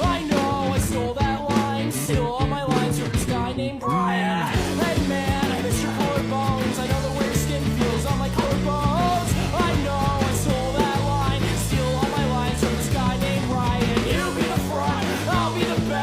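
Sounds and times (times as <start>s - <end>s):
fast rock backing band: 0.0s - 3.7s, 4.5s - 16.0s
person singing: 0.0s - 16.0s.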